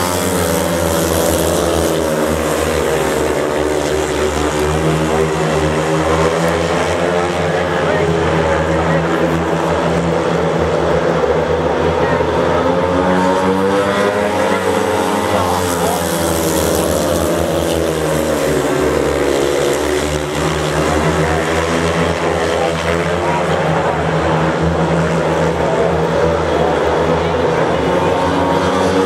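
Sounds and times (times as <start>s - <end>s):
racing motorcycle engines: 0.0s - 29.0s.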